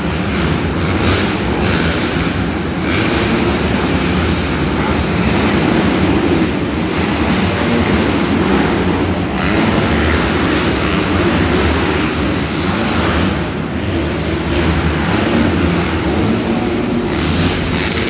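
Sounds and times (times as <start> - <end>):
dirt bikes rumbling: 0.0 - 18.0.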